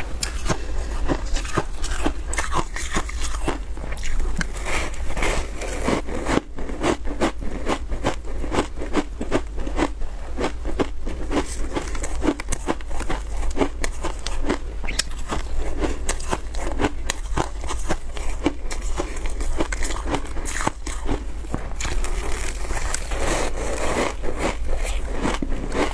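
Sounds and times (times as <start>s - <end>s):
crunching on shaved ice: 0.2s - 25.9s.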